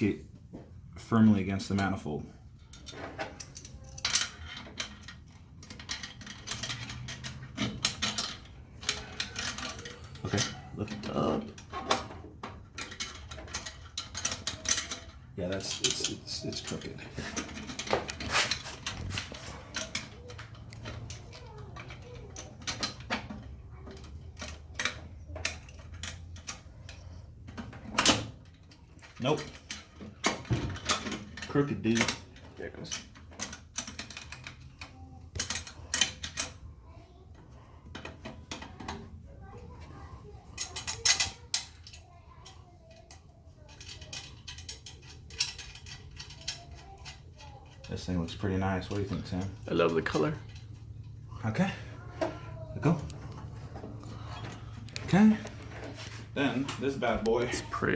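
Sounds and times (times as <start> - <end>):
metal clicks and clinks: 2.6 - 51.3, 52.2 - 57.9.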